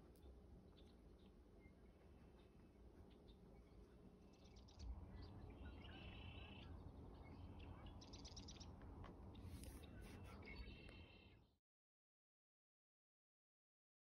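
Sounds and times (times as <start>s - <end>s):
faint birdsong: 0.0s - 11.6s.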